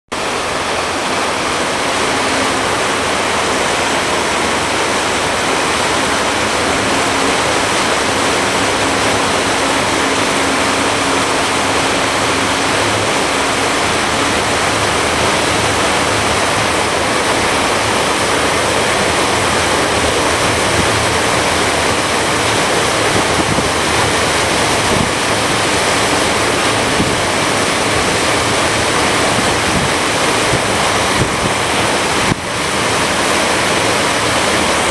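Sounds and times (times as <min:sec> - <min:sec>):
low hum: 0:00.1 - 0:34.9
water rushing along boat hull: 0:00.1 - 0:34.9
wind on microphone: 0:02.5 - 0:34.9.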